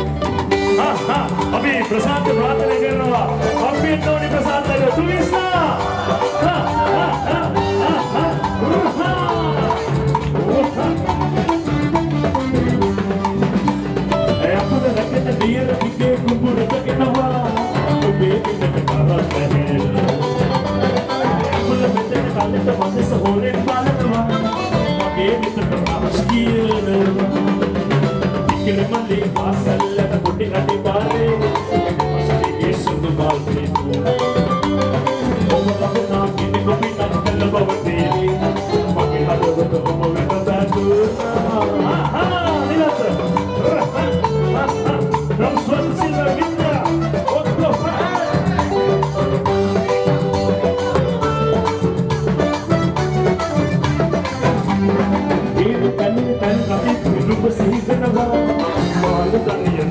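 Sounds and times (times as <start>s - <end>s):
live band playing dance music: 0.0s - 59.9s.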